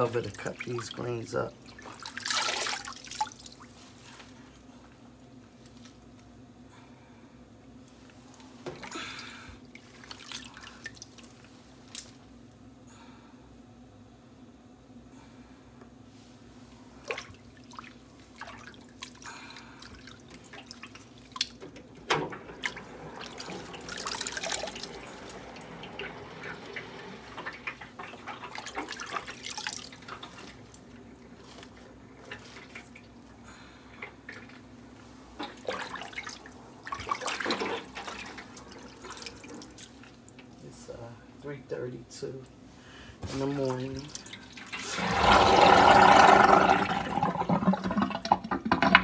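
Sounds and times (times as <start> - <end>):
water sloshing and splashing: 0.0 - 4.6, 8.2 - 12.3, 16.6 - 40.8, 42.6 - 49.0.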